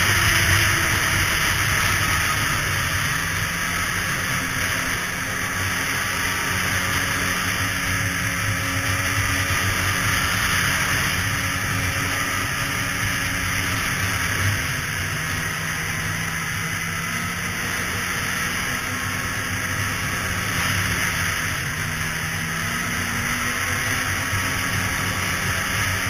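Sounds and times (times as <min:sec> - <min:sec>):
snowmobile engine running: 0:00.0 - 0:26.0
wind and track hiss: 0:00.0 - 0:26.0.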